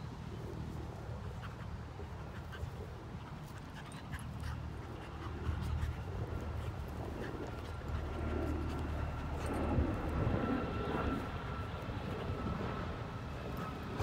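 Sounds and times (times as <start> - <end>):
dogs panting: 1.1 - 14.0.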